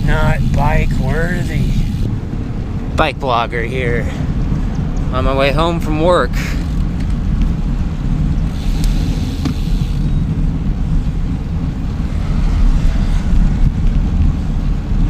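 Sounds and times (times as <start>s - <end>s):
faint road noise: 0.0s - 15.0s
wind buffeting microphone: 0.0s - 15.0s.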